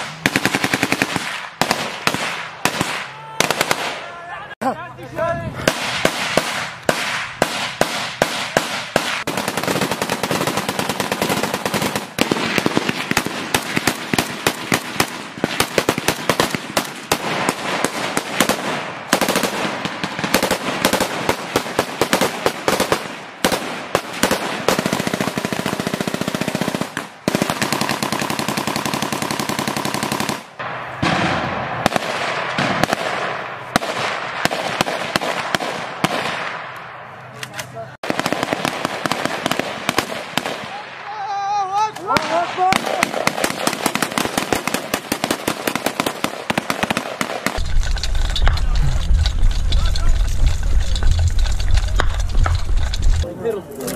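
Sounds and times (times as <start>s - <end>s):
automatic gunfire: 0.0s - 4.0s, 5.7s - 36.8s, 38.0s - 40.9s, 42.1s - 53.2s.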